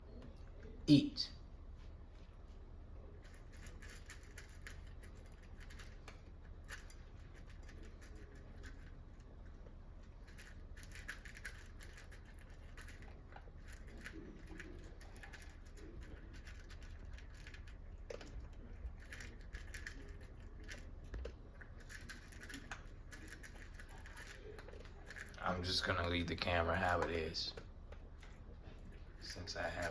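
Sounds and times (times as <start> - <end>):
dog crunching food: 3.2 - 29.9.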